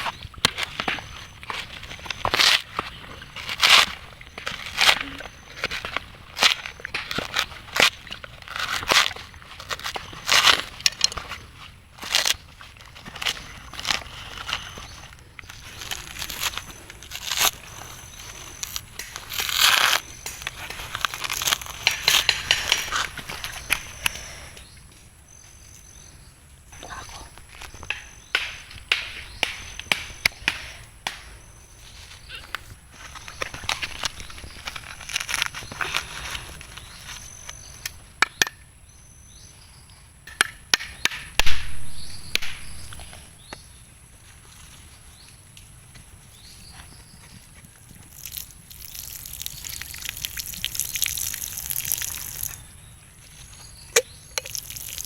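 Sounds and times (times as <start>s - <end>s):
dry material rustling and crackling: 0.0s - 26.1s, 26.9s - 37.9s, 41.7s - 55.0s.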